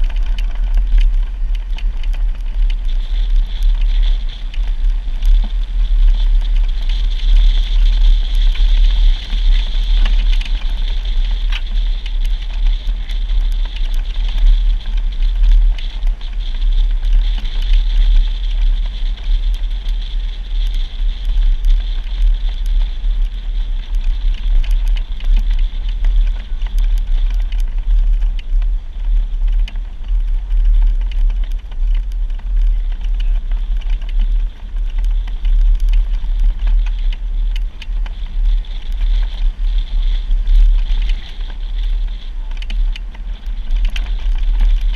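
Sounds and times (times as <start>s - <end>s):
off-road vehicle rumbling: 0.0s - 44.9s
small rattles and clicks: 0.0s - 44.9s.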